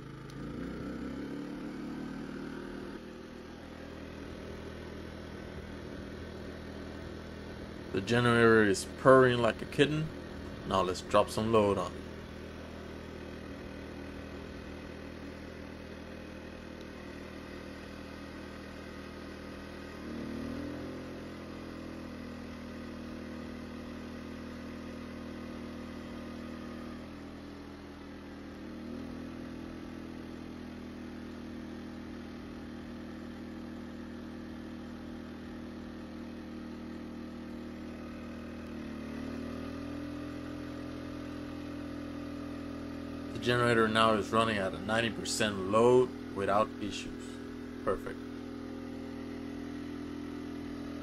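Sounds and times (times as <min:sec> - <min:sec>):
generator engine running: 0:00.0 - 0:51.0.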